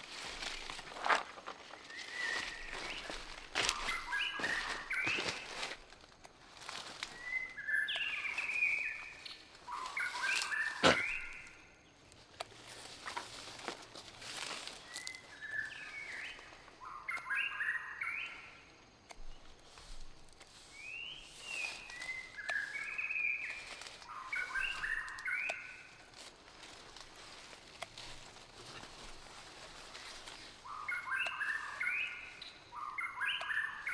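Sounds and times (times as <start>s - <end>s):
songbird whistled song: 0.1s - 5.9s, 6.6s - 11.8s, 14.3s - 19.9s, 20.5s - 26.7s, 28.8s - 33.9s.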